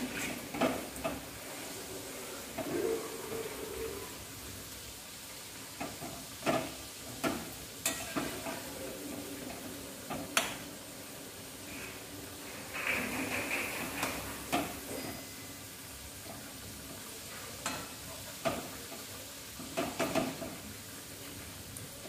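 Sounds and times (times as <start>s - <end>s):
food deep-frying in hot oil: 0.0s - 22.0s.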